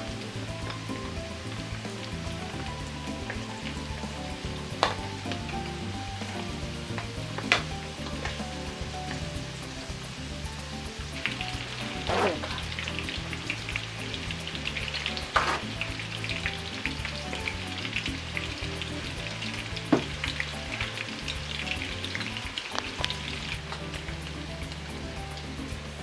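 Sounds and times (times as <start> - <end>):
fish deep-frying in oil: 0.0 - 26.0.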